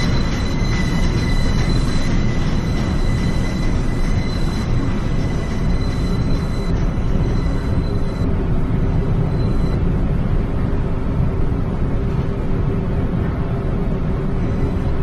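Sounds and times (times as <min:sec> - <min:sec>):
faint high whine: 0:00.0 - 0:10.8, 0:13.2 - 0:15.0
subway train wheels rumbling on rails: 0:00.0 - 0:15.0.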